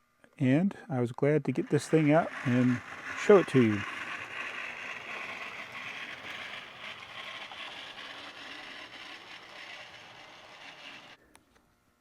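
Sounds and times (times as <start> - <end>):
model train motor whirring: 1.5 - 11.2.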